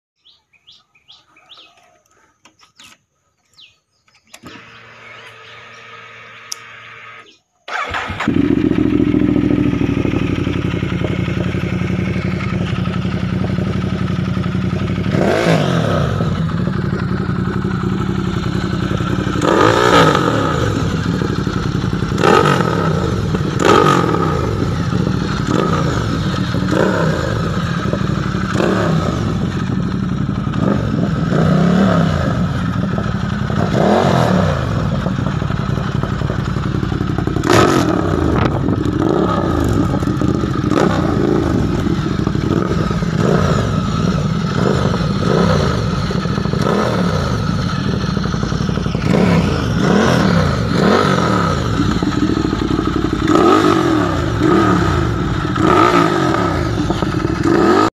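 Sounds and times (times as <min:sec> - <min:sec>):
motorcycle engine revving: 0:04.3 - 0:58.0.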